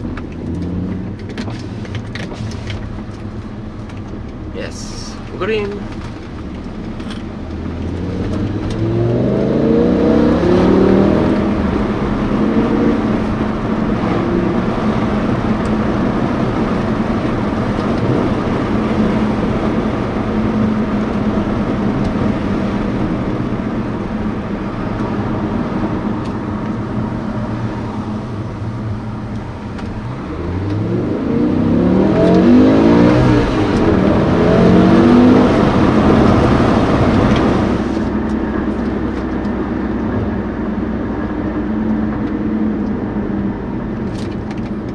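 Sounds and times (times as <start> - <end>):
car engine pulling hard: 0.0 - 44.9
road noise: 0.0 - 44.9.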